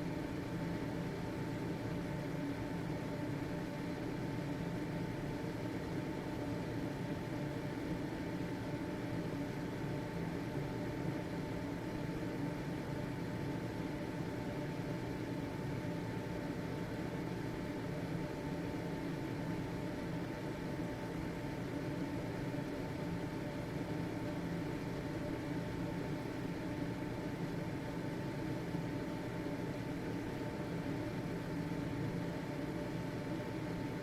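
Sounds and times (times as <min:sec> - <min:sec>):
ventilation fan humming: 0:00.0 - 0:34.0.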